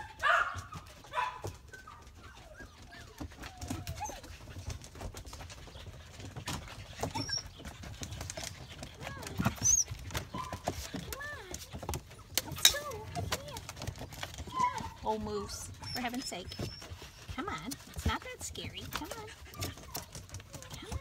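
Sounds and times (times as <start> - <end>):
puppies whining: 0.0 - 21.0.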